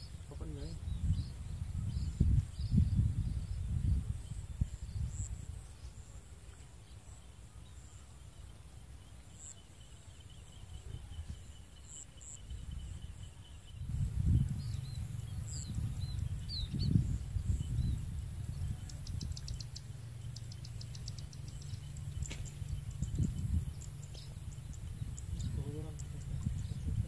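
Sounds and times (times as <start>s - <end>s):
wind rumble on microphone: 0.0s - 7.2s, 10.2s - 27.0s
faint insect trill: 0.0s - 27.0s.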